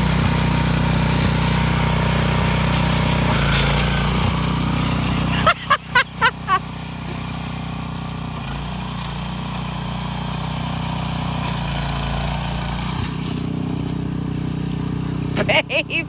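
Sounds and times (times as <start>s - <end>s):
rototiller engine running: 0.0s - 16.0s.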